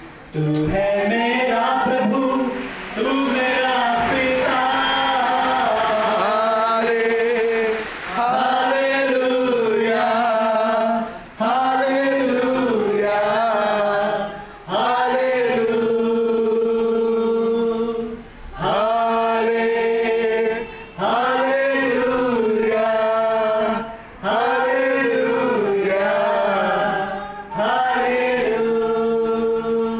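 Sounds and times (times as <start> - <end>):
group singing unaccompanied: 0.0 - 29.9
man leading singing: 0.3 - 29.9.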